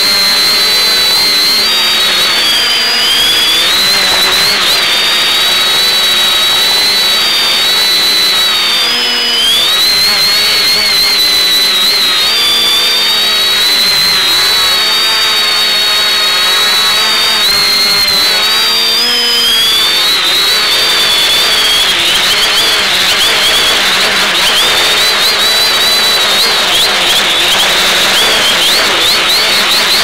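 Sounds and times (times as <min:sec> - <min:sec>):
quadcopter motors buzzing: 0:00.0 - 0:30.0.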